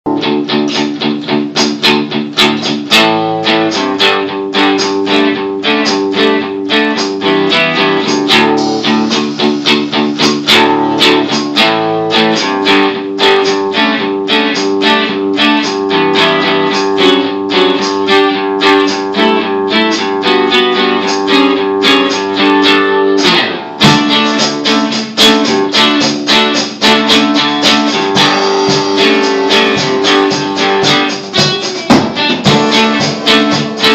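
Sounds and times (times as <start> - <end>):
acoustic guitar strumming: 0.1 - 33.9.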